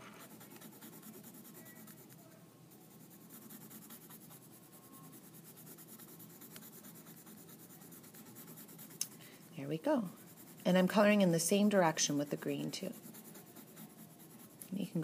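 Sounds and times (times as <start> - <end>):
colored pencil scratching on paper: 0.0 - 15.0.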